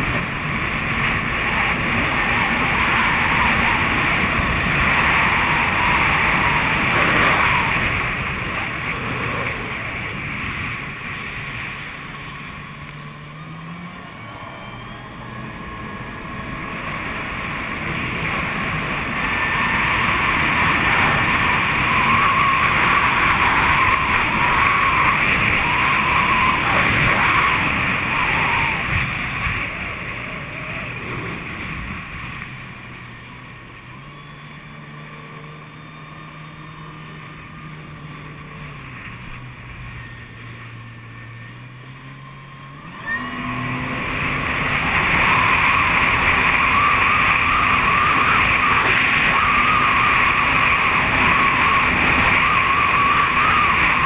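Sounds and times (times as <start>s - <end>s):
jet ski engine: 0.0s - 54.0s
rushing wind and water: 0.0s - 54.0s.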